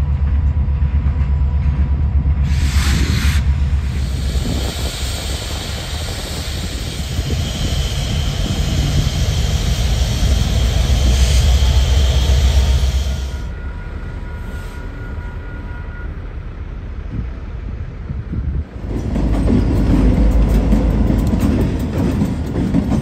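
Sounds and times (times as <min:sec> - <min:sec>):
diesel locomotive engine rumble: 0:00.0 - 0:23.0
train wheels on rails: 0:00.0 - 0:23.0.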